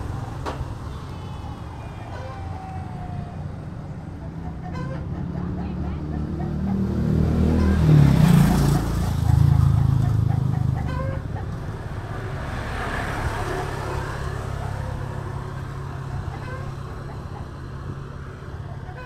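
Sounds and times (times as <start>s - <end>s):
vehicles rumbling past: 0.0s - 19.0s.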